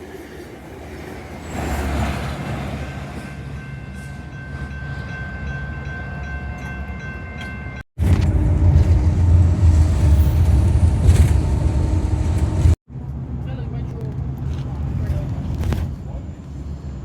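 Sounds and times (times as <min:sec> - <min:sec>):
diesel locomotive rumbling: 0:00.0 - 0:17.0
train passing with rumble: 0:00.0 - 0:17.0.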